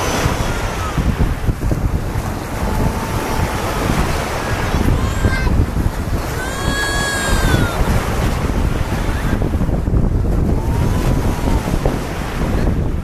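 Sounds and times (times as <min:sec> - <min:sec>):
small surf breaking on sand: 0:00.0 - 0:13.0
wind buffeting microphone: 0:00.0 - 0:13.0.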